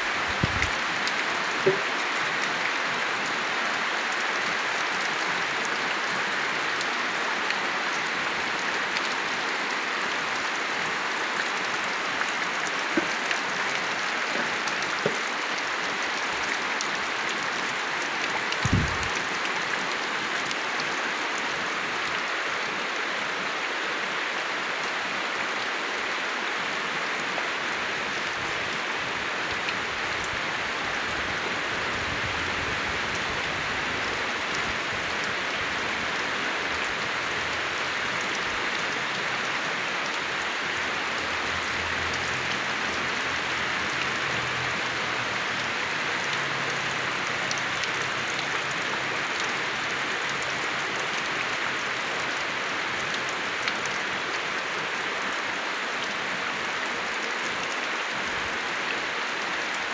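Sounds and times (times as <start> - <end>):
rain falling on leaves: 0.0 - 59.9.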